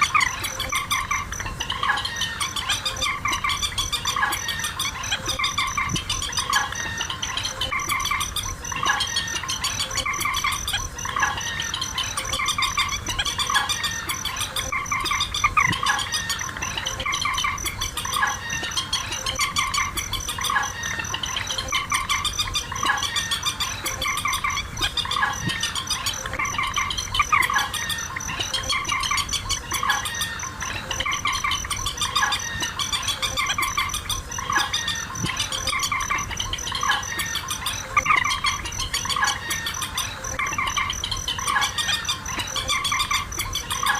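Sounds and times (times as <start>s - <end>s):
recorded bird calls: 0.0s - 43.9s.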